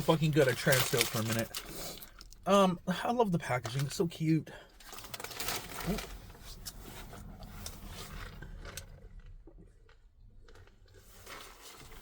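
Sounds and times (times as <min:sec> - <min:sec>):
eating and food-handling noises: 0:00.0 - 0:02.4, 0:03.6 - 0:12.0.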